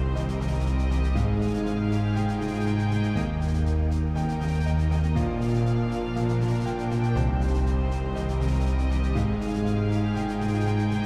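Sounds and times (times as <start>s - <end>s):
bass line: 0.0s - 11.0s
synth chords: 0.0s - 11.0s.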